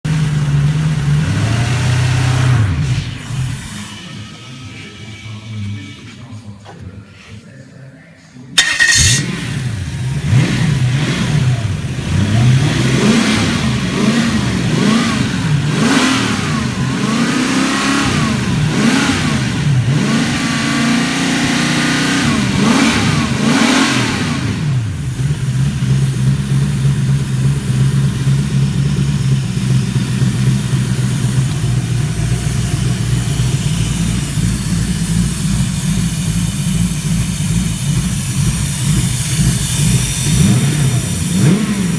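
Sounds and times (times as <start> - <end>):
car engine revving and idling: 0.0 - 6.3, 8.6 - 41.9.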